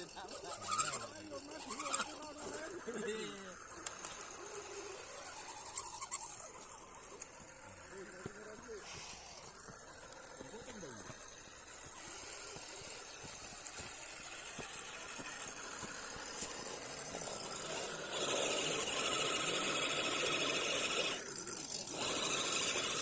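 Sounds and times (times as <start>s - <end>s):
electric motor and gearbox whining: 0.0s - 23.0s.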